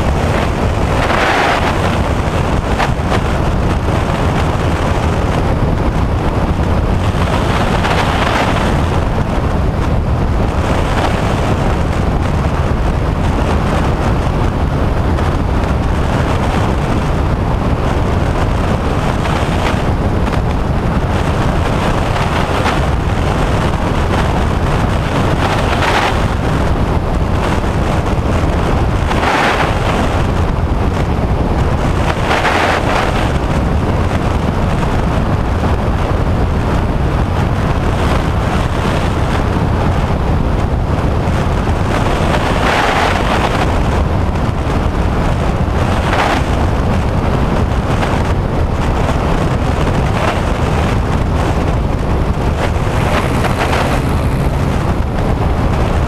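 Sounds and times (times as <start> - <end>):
propeller plane engine drone: 0.0 - 56.0
wind noise on microphone: 0.0 - 56.0.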